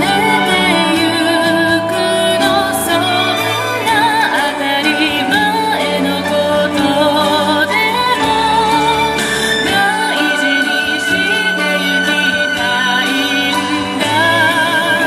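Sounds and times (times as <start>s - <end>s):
instrumental accompaniment: 0.0s - 15.0s
woman singing with vibrato: 0.0s - 15.0s.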